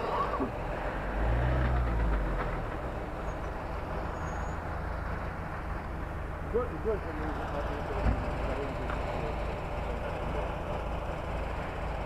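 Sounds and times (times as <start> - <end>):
fire engine engine rumbling: 0.0 - 12.0.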